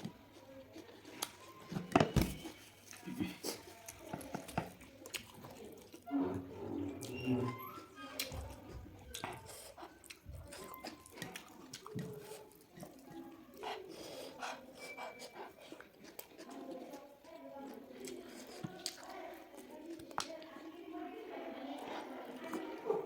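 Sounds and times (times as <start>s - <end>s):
chewing and lip-smacking: 0.1s - 6.1s, 7.0s - 20.8s.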